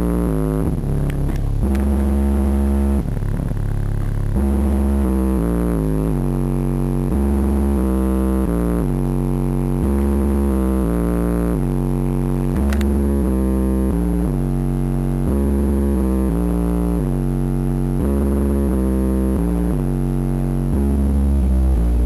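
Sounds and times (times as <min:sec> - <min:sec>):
bass-heavy synthesizer music: 0:00.0 - 0:22.0.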